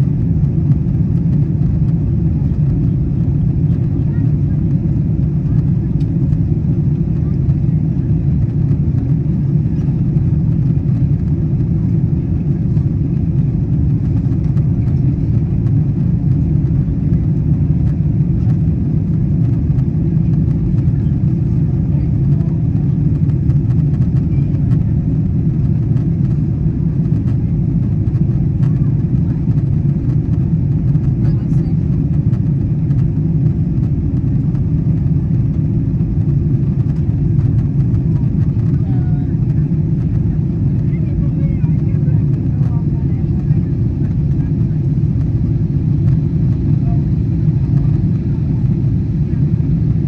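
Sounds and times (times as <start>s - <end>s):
airplane cabin engine rumble: 0.0s - 50.0s.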